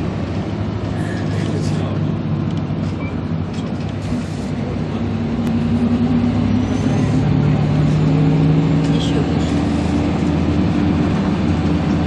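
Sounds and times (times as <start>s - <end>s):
road noise: 0.0s - 12.0s
vehicle engine drone: 0.0s - 12.0s.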